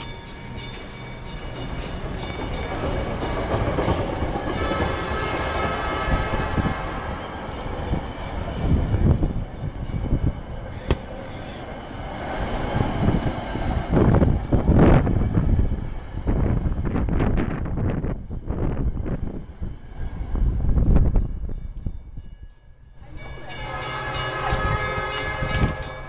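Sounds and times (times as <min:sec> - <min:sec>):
train cars rumbling by: 0:00.0 - 0:26.0.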